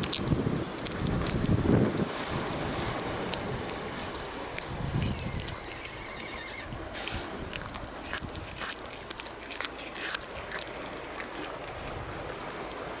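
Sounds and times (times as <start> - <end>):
cat chewing raw fish: 0.0 - 13.0.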